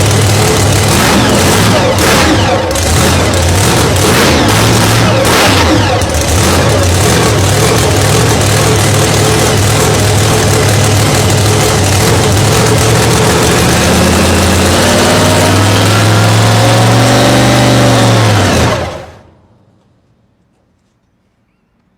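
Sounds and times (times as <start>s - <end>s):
engine running: 0.0s - 19.4s.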